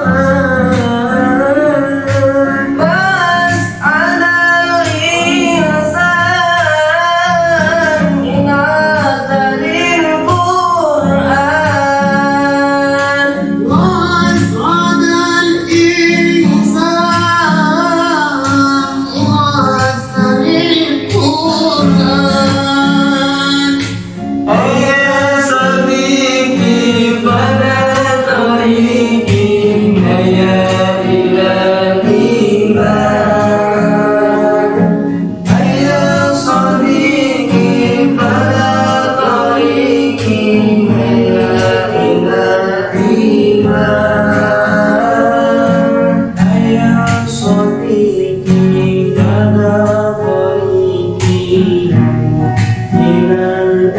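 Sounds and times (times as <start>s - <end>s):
person singing devotional song: 0.0s - 52.0s.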